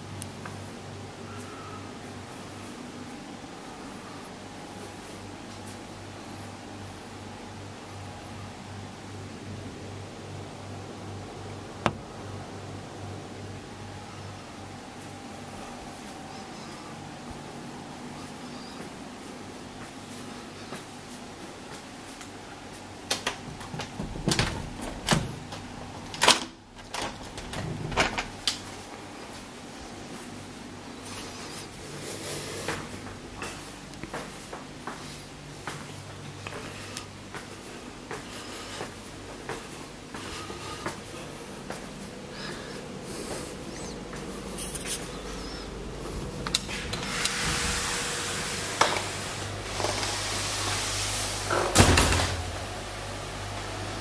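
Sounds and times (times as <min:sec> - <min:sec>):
air-conditioner hum: 0:00.0 - 0:54.0
outdoor hiss: 0:01.9 - 0:54.0.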